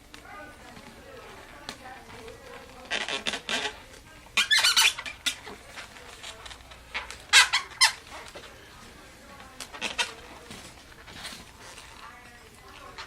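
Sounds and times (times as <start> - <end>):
balloons squeaking: 0.0 - 13.0.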